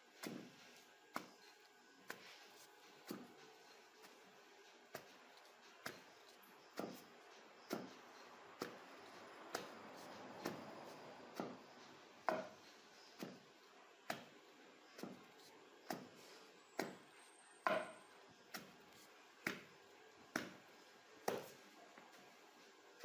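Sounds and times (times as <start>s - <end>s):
wooden pestle pounding in mortar: 0.1s - 23.0s.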